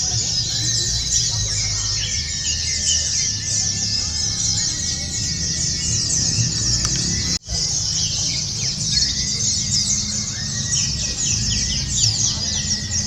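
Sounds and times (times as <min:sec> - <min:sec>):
birds twittering: 0:00.0 - 0:13.0.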